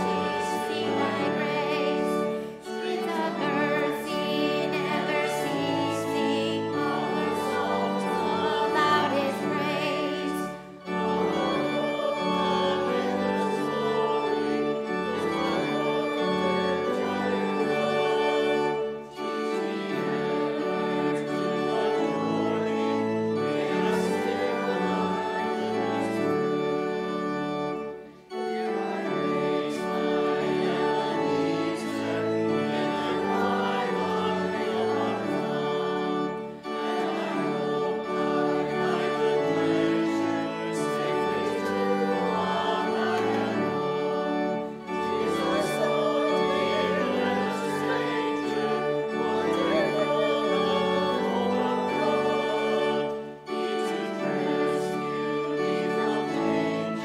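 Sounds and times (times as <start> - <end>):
voices singing: 0.0 - 27.7, 28.6 - 57.0
church organ music: 0.0 - 57.0.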